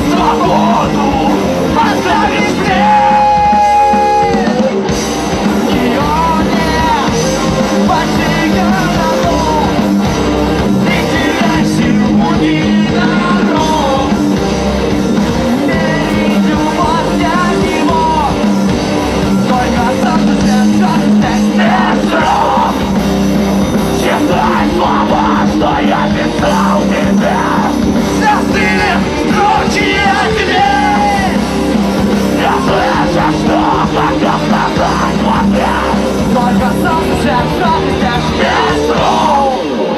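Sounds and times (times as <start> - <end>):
loud heavy rock band: 0.0 - 39.9
singer yelling and singing: 0.0 - 39.9.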